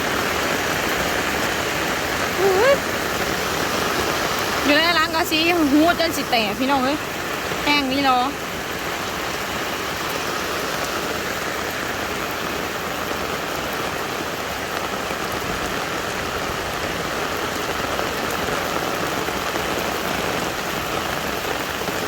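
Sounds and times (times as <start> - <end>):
heavy rain on hard surfaces: 0.0 - 22.0.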